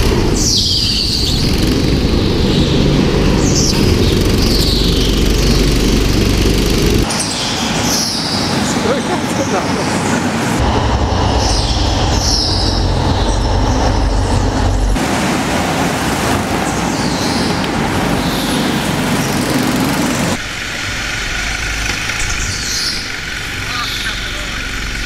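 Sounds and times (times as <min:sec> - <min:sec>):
go-kart engines droning: 0:00.0 - 0:25.0.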